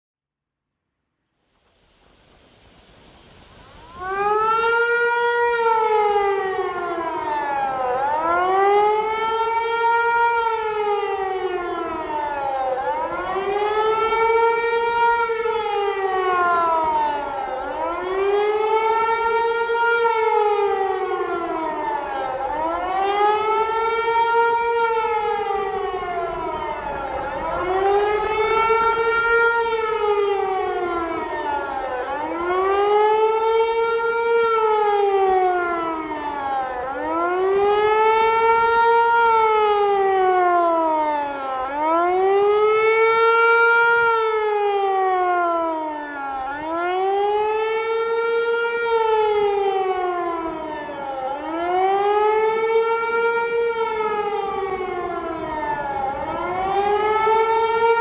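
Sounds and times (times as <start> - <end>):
electronic siren wailing: 3.5 - 58.0.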